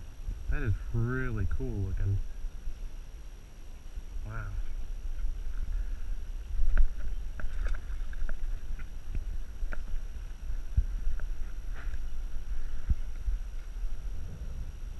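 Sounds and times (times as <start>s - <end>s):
wind rumbling on microphone: 0.0s - 14.9s.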